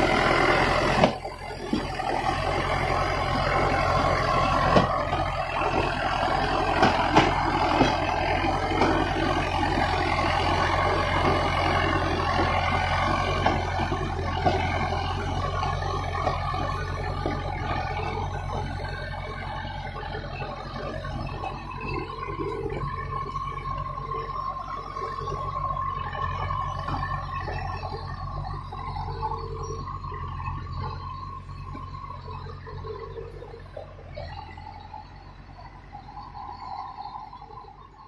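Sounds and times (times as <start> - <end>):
diesel engine running under load: 0.0 - 38.0
steady whine: 0.0 - 38.0.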